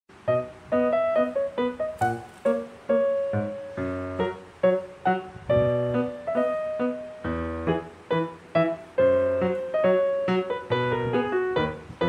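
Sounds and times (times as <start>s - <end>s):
keyboard melody: 0.1s - 12.0s.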